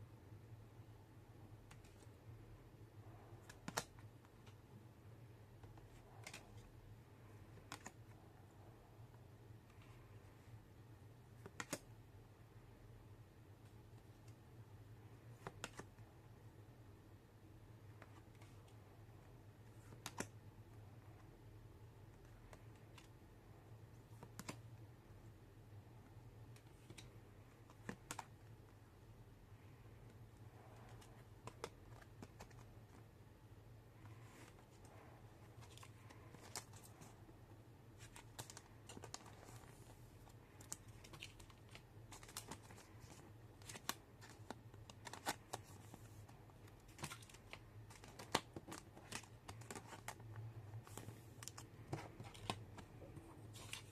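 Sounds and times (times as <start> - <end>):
low steady hum: 0.0 - 53.9.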